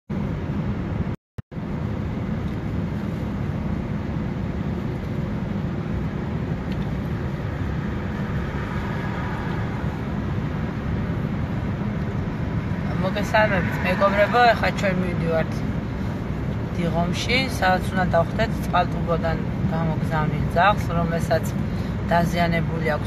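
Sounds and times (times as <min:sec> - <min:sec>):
car road and engine noise: 0:00.1 - 0:23.0.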